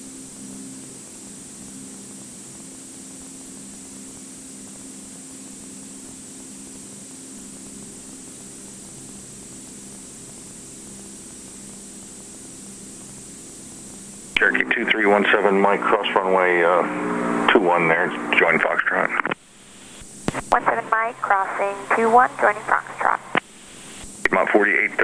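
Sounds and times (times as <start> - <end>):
muffled aircraft engine drone: 0.0 - 25.0
intercom hiss and hum: 0.2 - 25.0.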